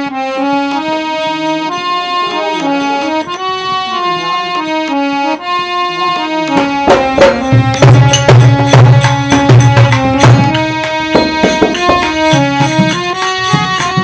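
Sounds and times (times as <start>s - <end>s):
dholak drum beating: 0.0s - 14.0s
harmonium melody: 0.0s - 14.0s.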